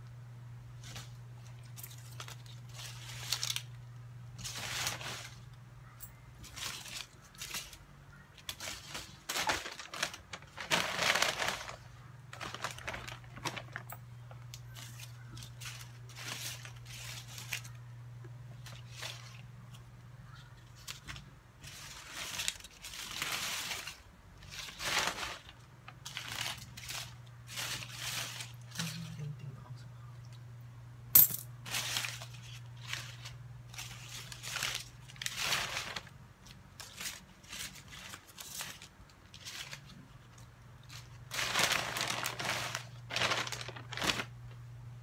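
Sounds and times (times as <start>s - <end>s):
steady low hum: 0.0s - 45.0s
paper banknotes rustling: 4.4s - 5.5s, 6.4s - 17.9s, 18.6s - 29.2s, 31.6s - 44.6s.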